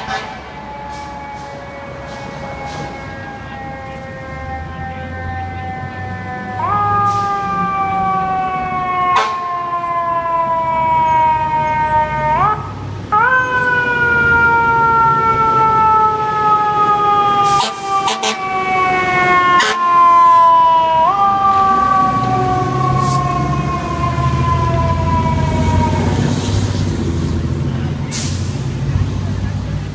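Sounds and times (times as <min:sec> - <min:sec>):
fire truck siren: 0:00.0 - 0:29.9
truck engine rumble: 0:00.0 - 0:29.9.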